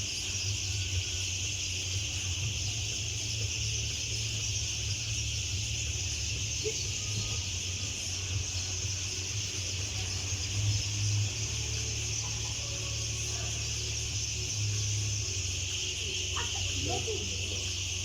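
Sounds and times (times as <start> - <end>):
high-pitched animal chorus: 1.2 - 18.0.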